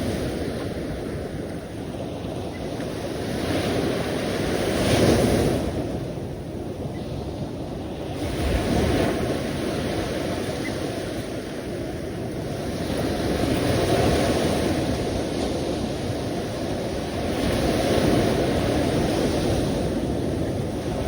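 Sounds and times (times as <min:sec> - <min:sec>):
sea surf washing: 0:00.0 - 0:21.0.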